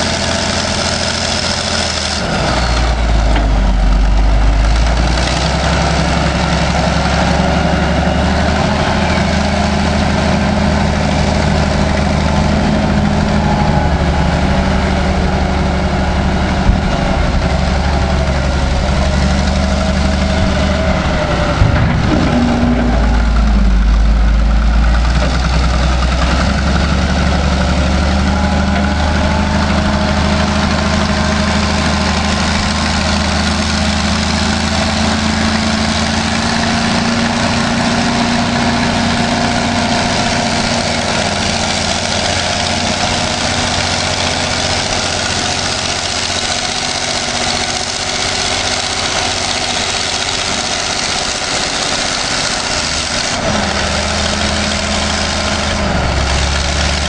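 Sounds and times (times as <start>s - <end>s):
diesel engine running: 0.0s - 57.0s
loader driving through water and mud: 0.0s - 57.0s.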